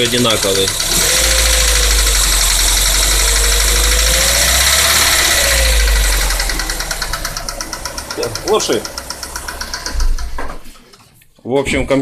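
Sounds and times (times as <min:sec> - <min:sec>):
car engine running: 0:00.0 - 0:10.9
rapid ticking engine knock: 0:00.0 - 0:11.0.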